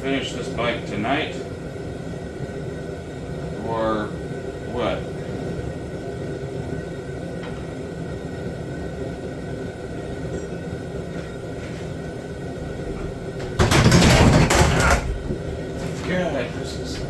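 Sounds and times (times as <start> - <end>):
heater low rumble: 0.0 - 17.0.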